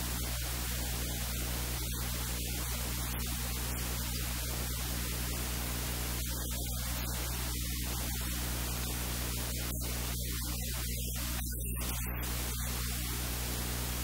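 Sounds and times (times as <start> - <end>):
low electrical hum: 0.0 - 14.0
static hiss: 0.0 - 14.0.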